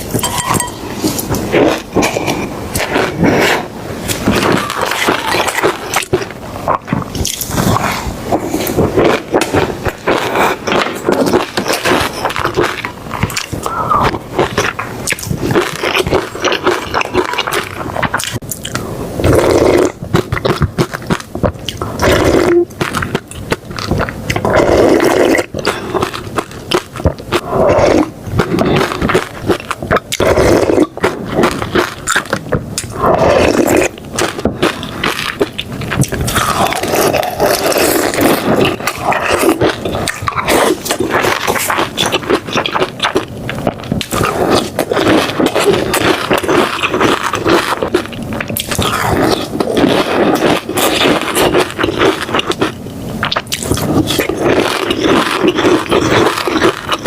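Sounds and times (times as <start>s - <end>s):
chewing and slurping: 0.0s - 57.0s.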